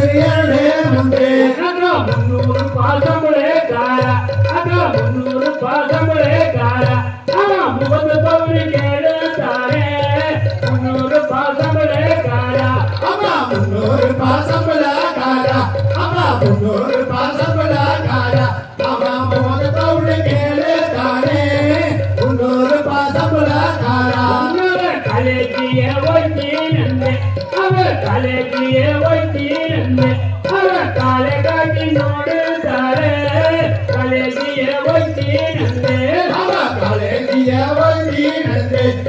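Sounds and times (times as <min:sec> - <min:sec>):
steady drumming: 0:00.0 - 0:39.0.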